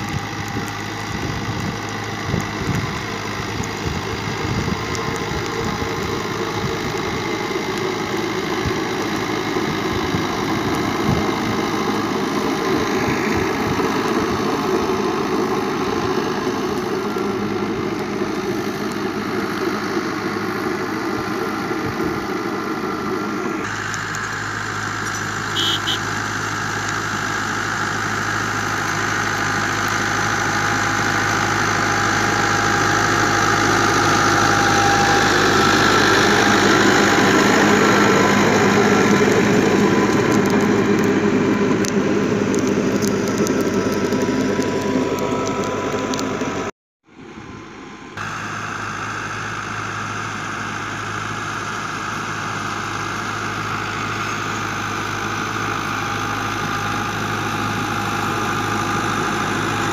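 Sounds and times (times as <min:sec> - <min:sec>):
rotavator tilling sandy soil: 0:00.0 - 0:46.7, 0:48.2 - 0:59.9
tractor diesel engine running: 0:00.0 - 0:59.9.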